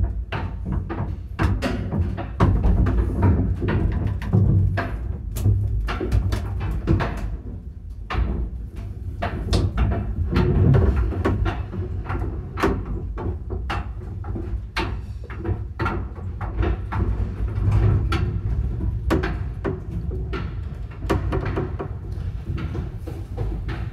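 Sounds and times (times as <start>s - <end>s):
lift machinery knocks and clicks: 0.0s - 23.9s.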